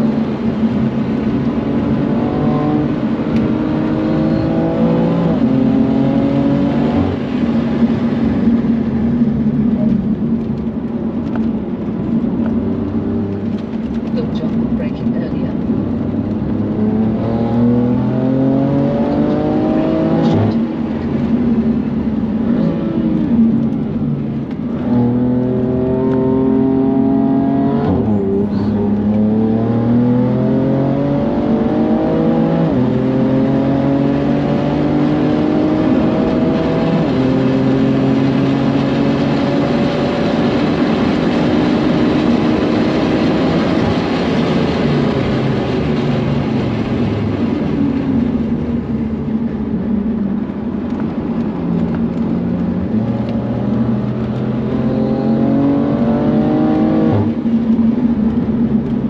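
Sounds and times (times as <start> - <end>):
car engine accelerating hard: 0.0 - 59.0
tyre and road noise: 0.0 - 59.0.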